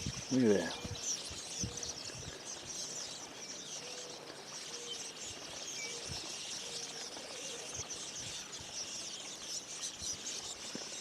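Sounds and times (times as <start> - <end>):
many birds chirping: 0.0 - 11.0.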